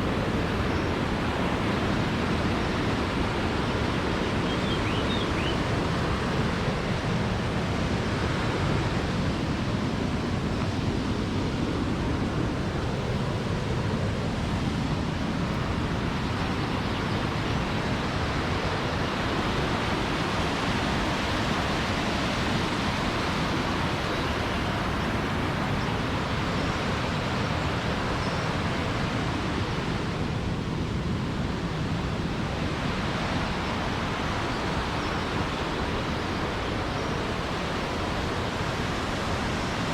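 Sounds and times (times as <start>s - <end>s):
waterfall rushing: 0.0s - 10.6s, 15.1s - 39.9s.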